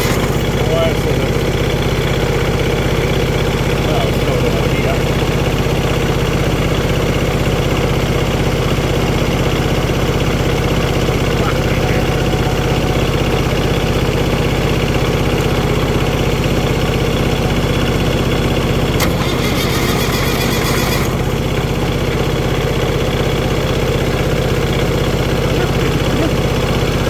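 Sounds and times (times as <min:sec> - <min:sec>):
diesel tractor engine idling: 0:00.0 - 0:27.0.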